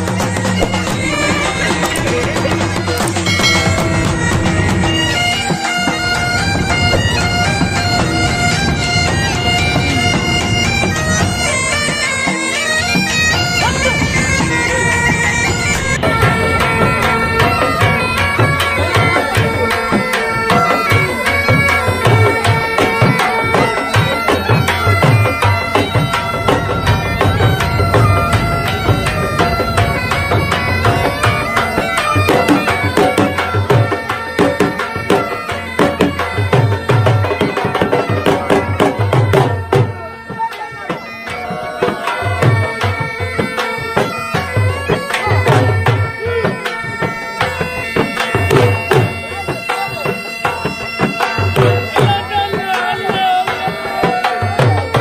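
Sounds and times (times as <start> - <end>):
held wind instrument melody: 0.0 - 55.0.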